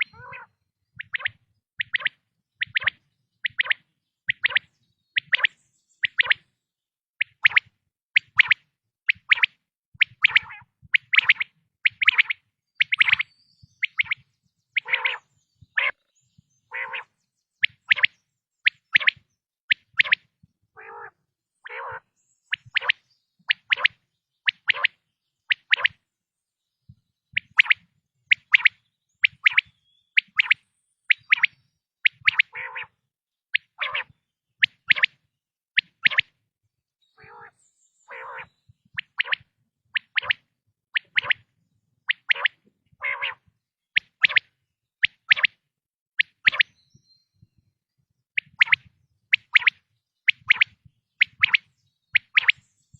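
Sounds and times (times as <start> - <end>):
quail calling: 0.0 - 6.4, 7.2 - 14.2, 14.8 - 16.1, 16.7 - 26.0, 27.4 - 33.0, 33.6 - 35.2, 35.8 - 36.3, 37.2 - 41.5, 42.1 - 45.6, 46.2 - 46.8, 48.4 - 52.6.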